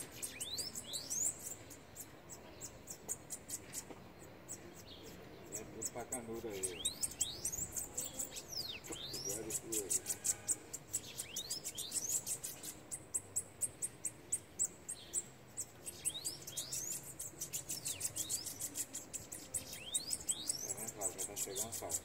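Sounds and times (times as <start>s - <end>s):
birds singing trills and whistles: 0.0s - 22.0s.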